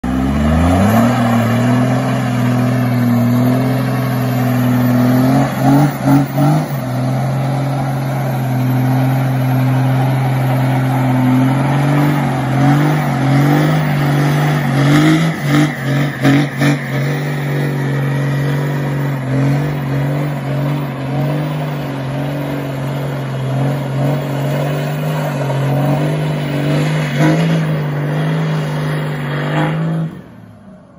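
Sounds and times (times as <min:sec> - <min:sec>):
diesel engine revving: 0:00.0 - 0:30.9
tyres spinning on asphalt: 0:00.0 - 0:30.9.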